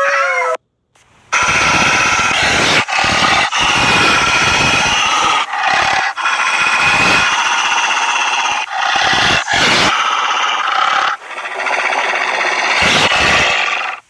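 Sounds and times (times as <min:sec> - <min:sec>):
wolves howling: 0:01.4 - 0:14.0.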